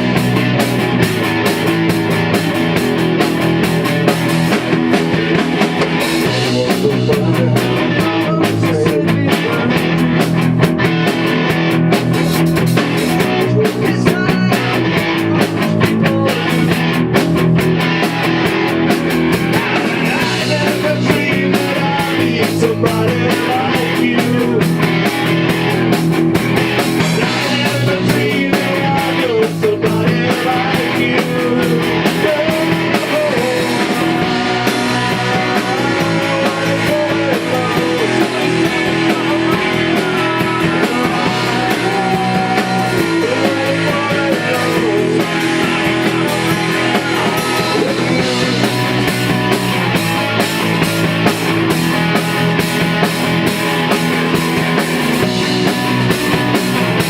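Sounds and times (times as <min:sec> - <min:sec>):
bass guitar: 0:00.0 - 0:57.0
drums: 0:00.0 - 0:57.0
electric guitars: 0:00.0 - 0:57.0.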